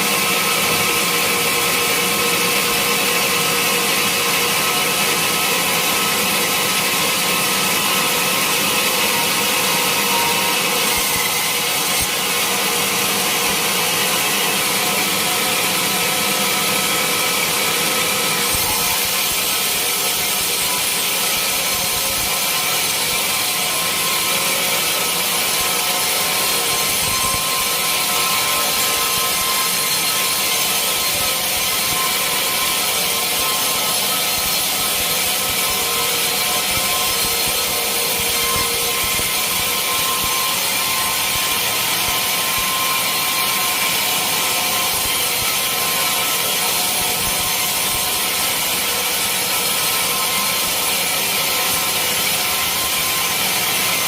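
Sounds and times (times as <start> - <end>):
sawmill saw cutting log: 0.0 - 54.0.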